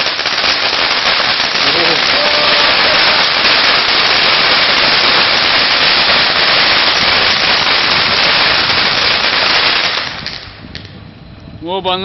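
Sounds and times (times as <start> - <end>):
firework fountain crackling hiss: 0.0 - 10.9.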